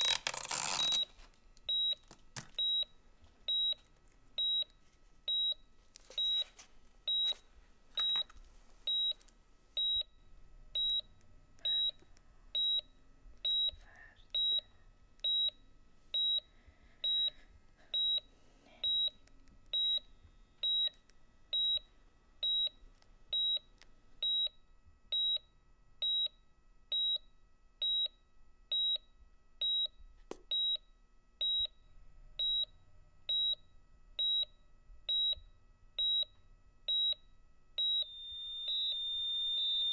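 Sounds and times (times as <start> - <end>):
heart monitor beeping: 0.0 - 39.9.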